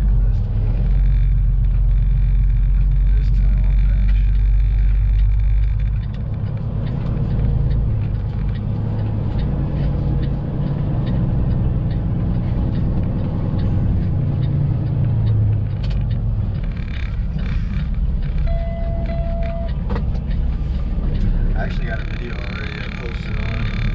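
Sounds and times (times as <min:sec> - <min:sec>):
diesel truck engine running: 0:00.0 - 0:23.9.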